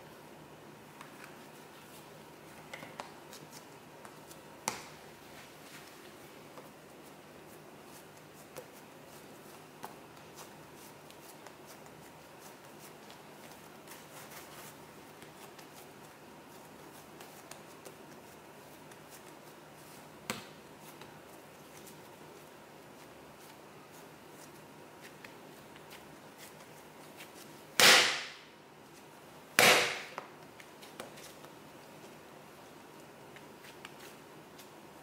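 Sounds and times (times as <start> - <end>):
hands rubbing dough: 0.9 - 27.8, 30.2 - 35.0.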